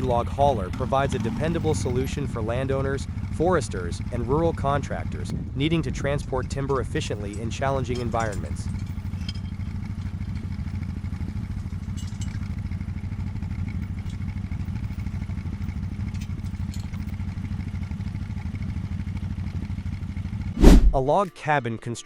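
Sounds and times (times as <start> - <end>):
atv engine running: 0.0 - 20.6.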